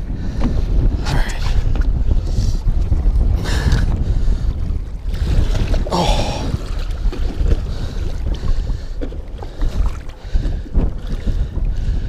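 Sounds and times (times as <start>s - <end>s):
waves slapping against boat: 0.0s - 12.0s
wind buffeting microphone: 0.0s - 12.0s.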